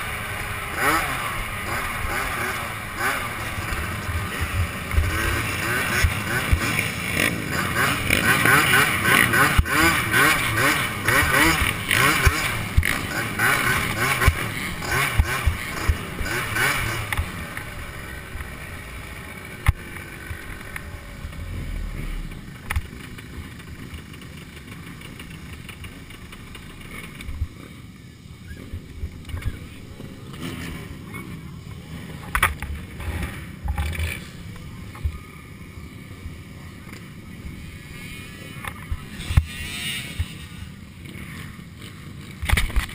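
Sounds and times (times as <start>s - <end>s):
quad engine revving: 0.0s - 27.7s, 28.6s - 35.2s, 37.4s - 42.9s.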